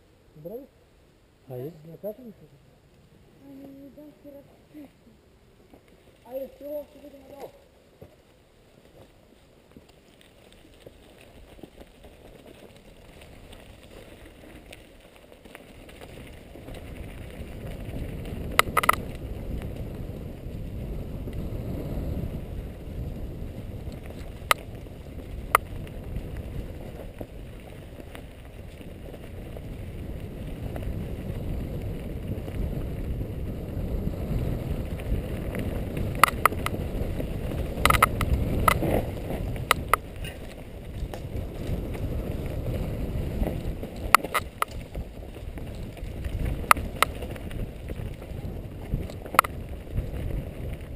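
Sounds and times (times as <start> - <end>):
rumble of wind and tyres: 0.0 - 50.9
bike rattling over bumps: 5.7 - 50.9.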